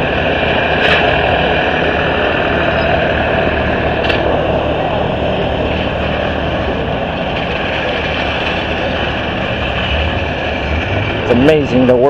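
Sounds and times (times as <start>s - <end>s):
running machinery hum and hiss: 0.0s - 12.0s.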